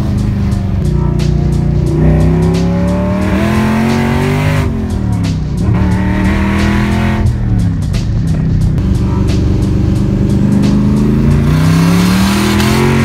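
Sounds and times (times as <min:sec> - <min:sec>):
car engine revving: 0:00.0 - 0:13.0
faint music: 0:00.0 - 0:13.0.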